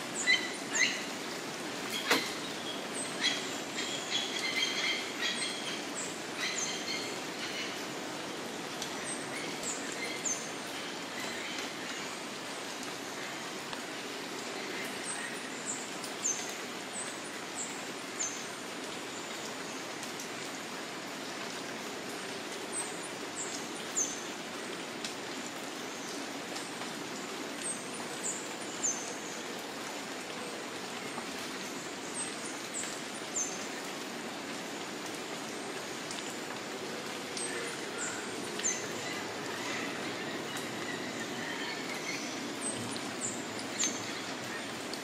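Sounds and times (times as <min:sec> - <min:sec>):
rain on foliage: 0:00.0 - 0:45.0.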